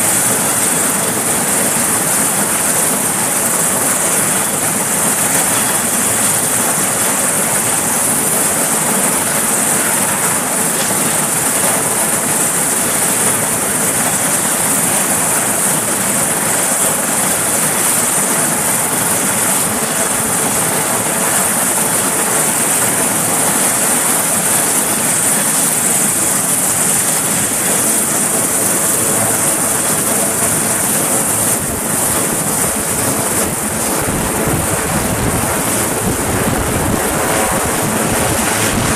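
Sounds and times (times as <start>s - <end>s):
helicopter engines and rotor: 0.0s - 38.9s.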